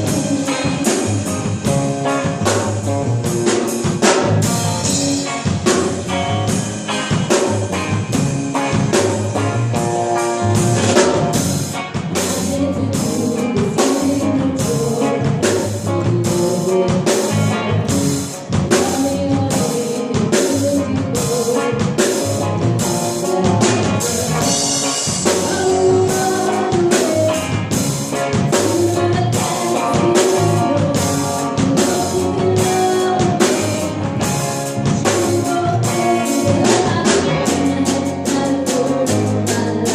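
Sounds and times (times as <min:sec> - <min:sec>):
drum kit beat: 0:00.0 - 0:39.9
live band playing: 0:00.0 - 0:39.9.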